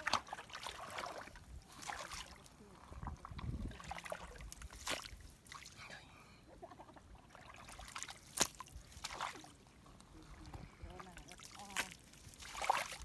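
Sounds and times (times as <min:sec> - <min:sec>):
muddy water splashing: 0:00.0 - 0:06.0, 0:06.6 - 0:13.0.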